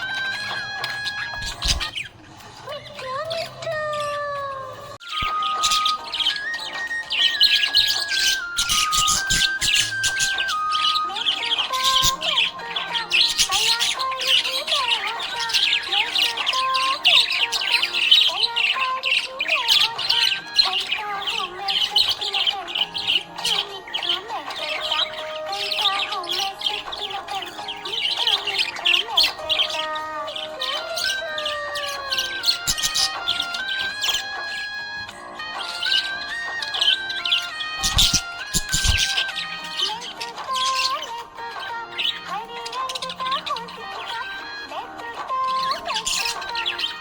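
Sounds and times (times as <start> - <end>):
background music with held notes: 0.0 - 47.0
parrots chattering and squawking: 0.0 - 47.0.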